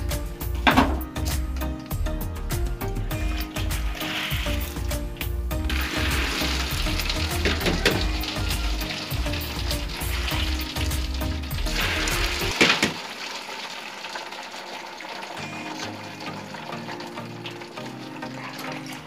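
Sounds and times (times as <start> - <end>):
sizzling hiss: 3.0 - 19.0
water pouring and draining: 3.0 - 19.0.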